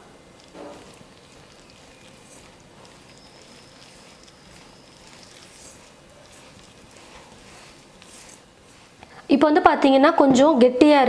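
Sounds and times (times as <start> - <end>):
hand mixing flour in steel bowl: 0.0 - 10.0.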